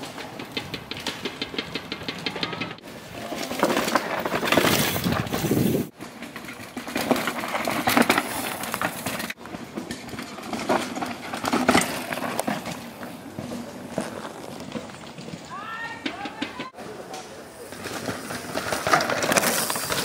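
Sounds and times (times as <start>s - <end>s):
bike tyres crunching on dirt: 0.0s - 20.0s
bikes rattling: 0.0s - 20.0s.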